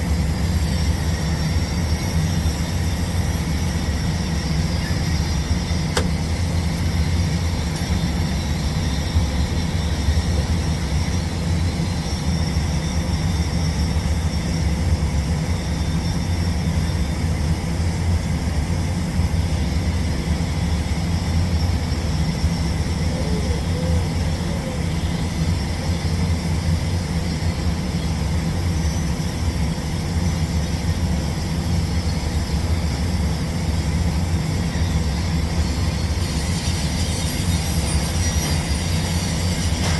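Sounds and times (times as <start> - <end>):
welding machine drone with hiss: 0.0 - 39.9.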